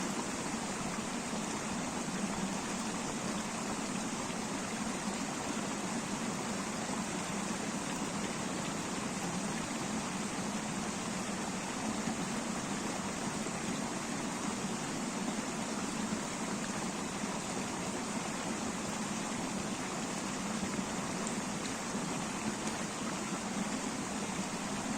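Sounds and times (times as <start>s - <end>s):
river water flowing: 0.0s - 24.9s.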